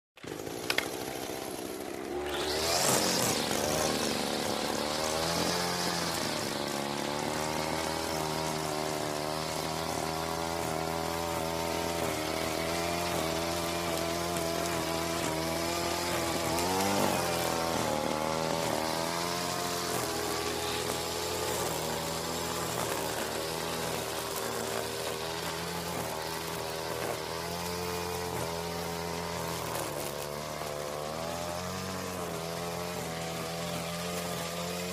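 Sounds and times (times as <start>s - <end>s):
grass cutter engine running: 0.2s - 34.9s.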